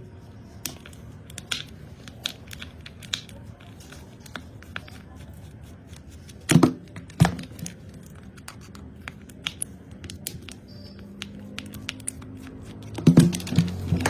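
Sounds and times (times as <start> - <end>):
small objects clicking and tapping: 0.6 - 5.4, 6.1 - 14.0.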